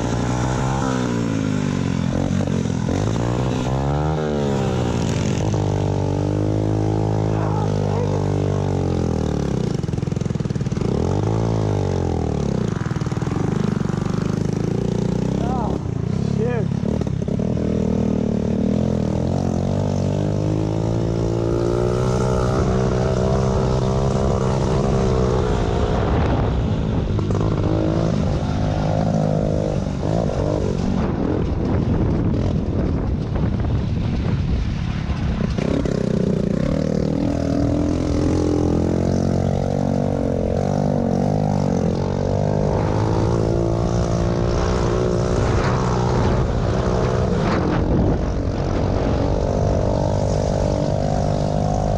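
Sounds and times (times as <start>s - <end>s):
pit bike engines racing: 0.0s - 51.9s.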